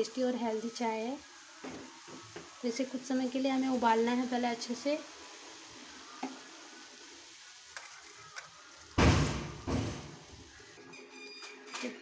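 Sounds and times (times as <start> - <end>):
tea boiling in a saucepan: 0.0 - 10.9.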